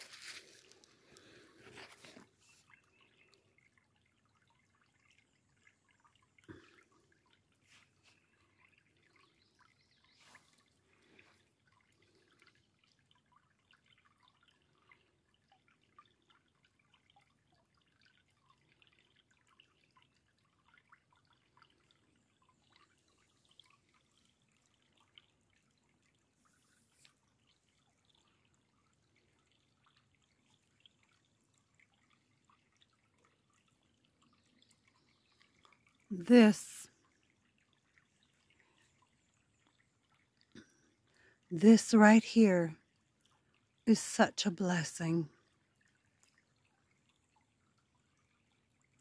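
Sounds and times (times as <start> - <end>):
faint stream trickling: 0.0 - 49.0
small drip-like ticks: 0.0 - 49.0.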